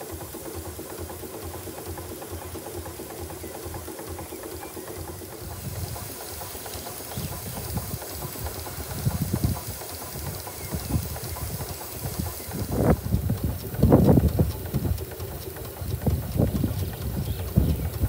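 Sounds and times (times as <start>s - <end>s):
steam engine pulsing: 0.0s - 18.0s
steam hiss: 0.0s - 18.0s.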